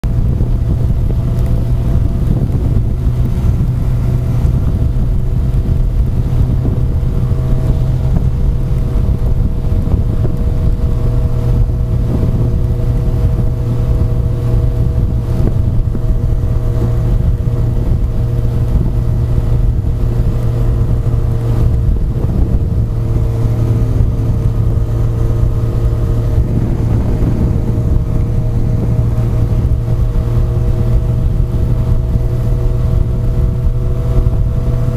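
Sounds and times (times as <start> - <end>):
motorcycle engine running: 0.0 - 34.9
wind on microphone: 0.0 - 34.9.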